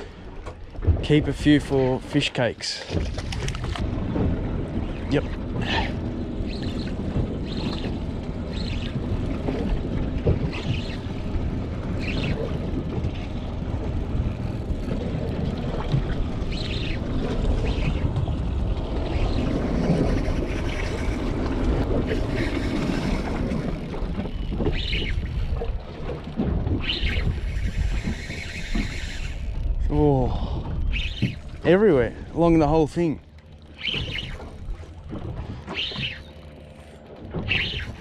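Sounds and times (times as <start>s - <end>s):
water lapping against hull: 0.0s - 38.0s.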